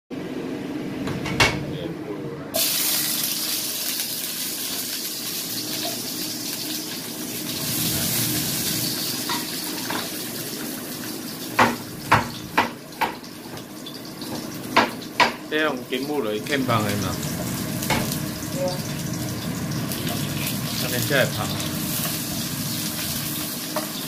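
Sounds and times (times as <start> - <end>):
ginger sizzling in oil: 2.6 - 24.0.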